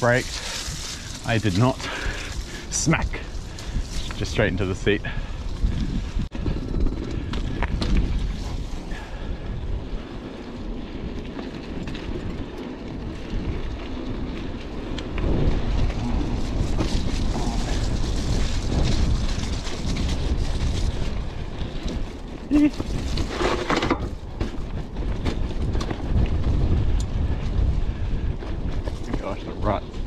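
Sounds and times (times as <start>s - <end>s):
bicycle rattling over bumps: 0.0s - 30.0s
bicycle tyres rumbling on dirt: 0.0s - 30.0s
wind on microphone: 0.0s - 30.0s.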